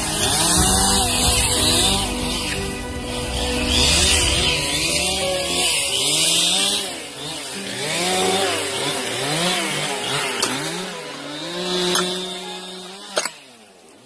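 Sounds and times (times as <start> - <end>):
chainsaws revving: 0.0 - 13.5.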